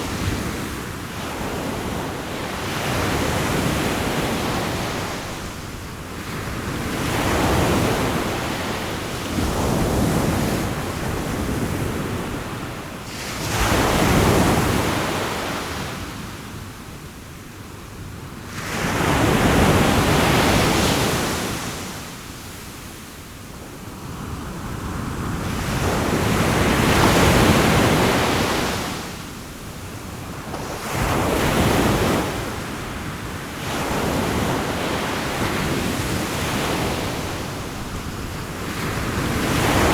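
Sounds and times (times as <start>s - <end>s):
sea waves breaking and washing: 0.0s - 16.2s, 24.0s - 39.9s.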